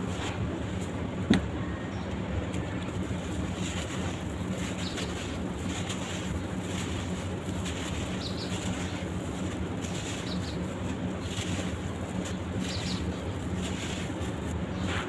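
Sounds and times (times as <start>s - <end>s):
faint scattered crackles: 2.0s - 14.8s.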